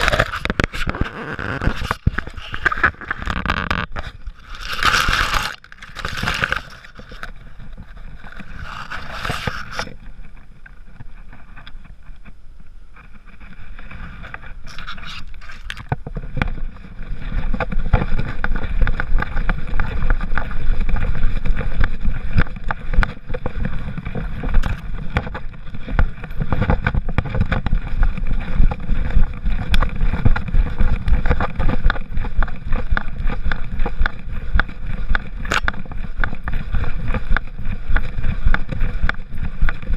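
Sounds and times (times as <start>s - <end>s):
leaves brushing against camera: 0.0s - 10.4s, 13.0s - 39.9s
wind on microphone: 0.0s - 39.9s.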